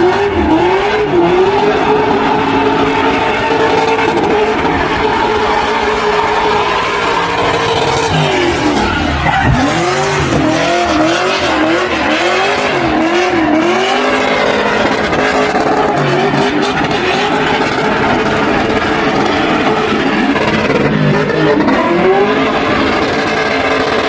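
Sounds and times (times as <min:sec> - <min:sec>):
car engine revving: 0:00.0 - 0:24.0
tyres squealing and skidding: 0:00.0 - 0:24.0.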